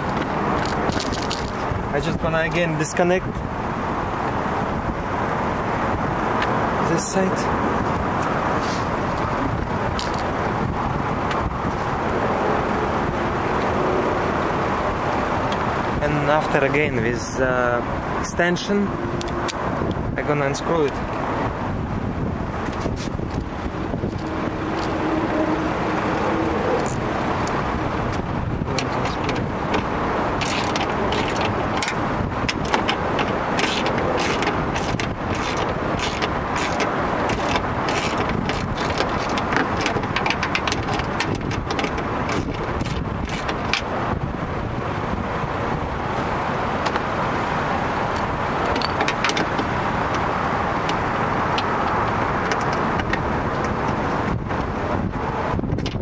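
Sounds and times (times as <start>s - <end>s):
steady rushing background noise: 0.0s - 56.0s.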